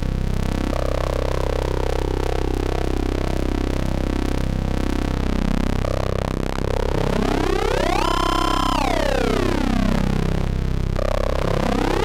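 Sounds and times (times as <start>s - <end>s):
buzzy synthesizer drone: 0.0s - 12.0s.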